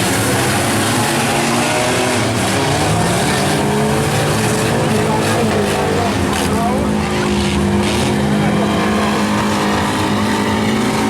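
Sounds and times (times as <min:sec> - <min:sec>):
several engines revving: 0:00.0 - 0:11.0.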